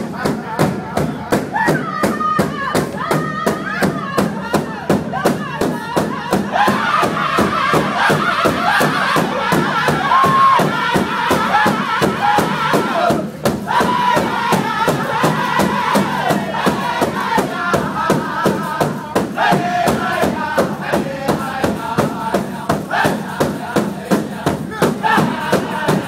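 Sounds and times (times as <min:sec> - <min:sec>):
big drum fast steady beat: 0:00.0 - 0:26.0
group singing in high wavering voices: 0:00.0 - 0:26.0.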